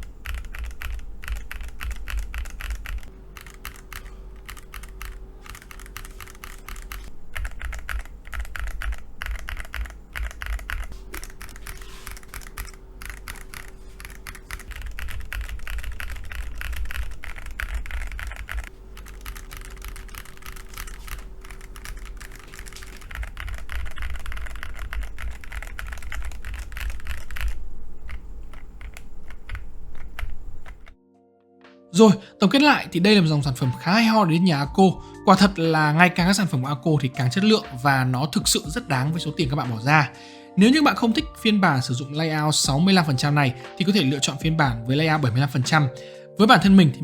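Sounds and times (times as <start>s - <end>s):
mechanical keyboard typing: 0.0s - 31.0s, 37.1s - 47.0s.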